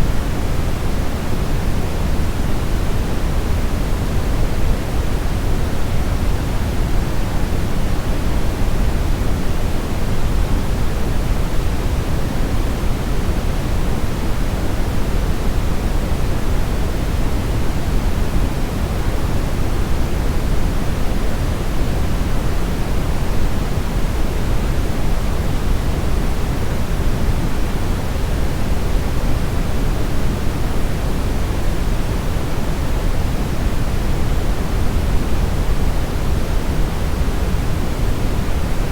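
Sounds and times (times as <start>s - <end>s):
brown noise hiss: 0.0s - 38.9s.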